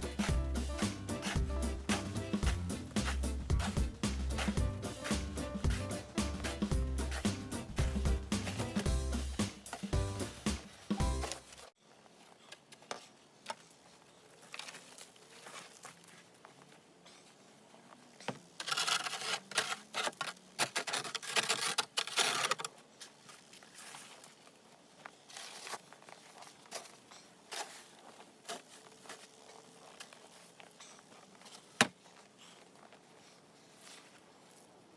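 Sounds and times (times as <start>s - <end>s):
scraping and crunching in snow: 0.0s - 12.5s, 13.1s - 34.9s.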